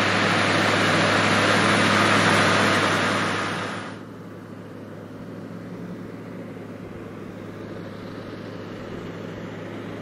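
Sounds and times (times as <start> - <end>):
tractor diesel engine drone: 0.0 - 10.0.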